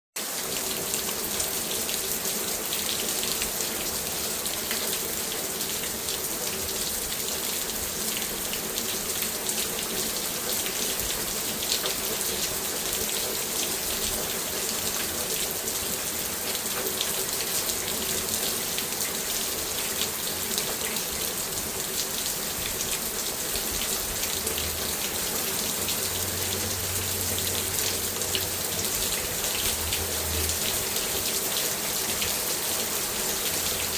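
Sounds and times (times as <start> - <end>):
steady rain pattering: 0.2 - 33.9.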